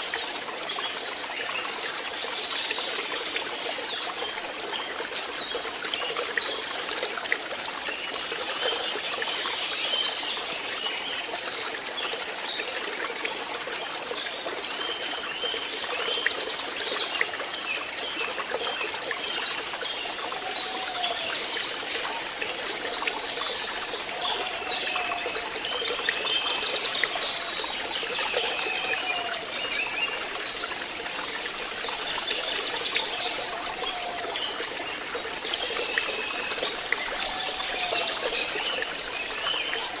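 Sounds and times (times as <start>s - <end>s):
water trickling into a pond: 0.0s - 40.0s.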